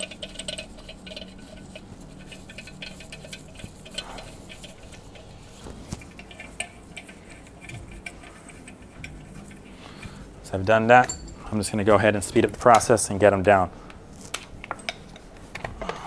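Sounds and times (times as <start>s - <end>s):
handling of metal parts: 0.0s - 11.8s, 14.2s - 16.0s.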